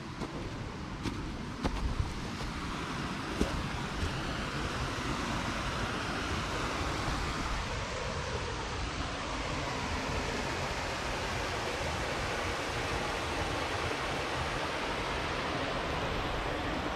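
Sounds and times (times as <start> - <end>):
stream water rushing: 0.0 - 16.9.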